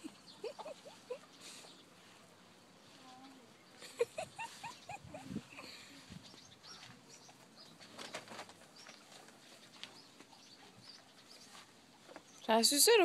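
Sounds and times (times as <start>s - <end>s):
faint rustling: 0.0s - 12.6s.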